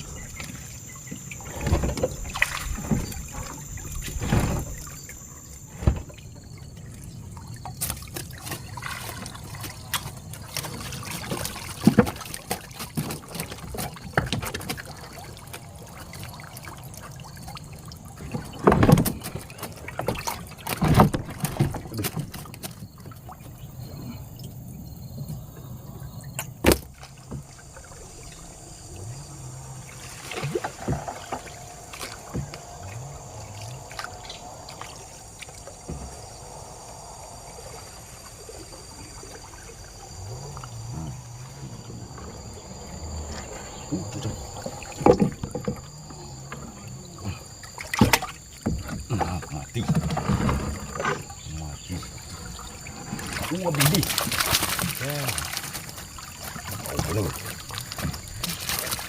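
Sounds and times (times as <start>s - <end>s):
water splashing and trickling: 0.0s - 59.0s.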